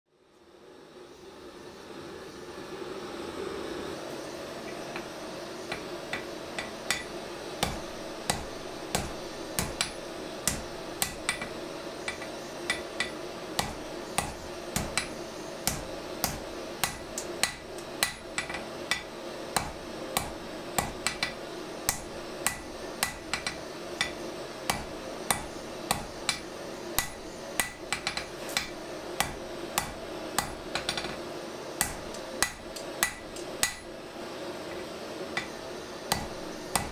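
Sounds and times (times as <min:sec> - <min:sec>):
gas forge burner roaring: 0:00.2 - 0:36.9
hammer striking hot steel on anvil: 0:05.7 - 0:31.2, 0:31.8 - 0:34.0, 0:34.8 - 0:36.9.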